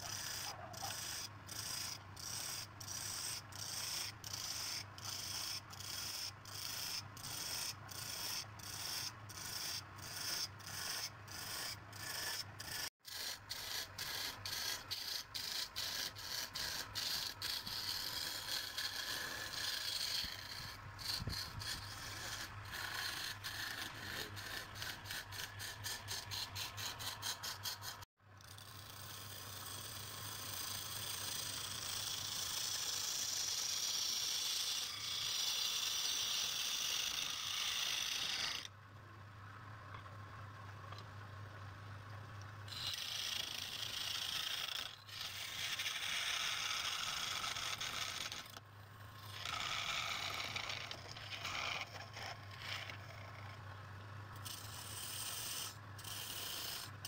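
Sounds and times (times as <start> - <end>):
tool scraping spinning wood: 0.0 - 38.7, 42.7 - 53.6, 54.4 - 57.0.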